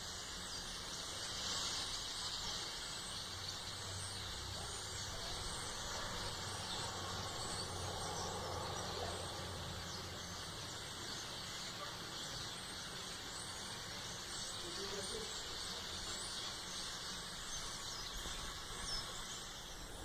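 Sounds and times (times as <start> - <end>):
flock of birds chattering: 0.0 - 20.0.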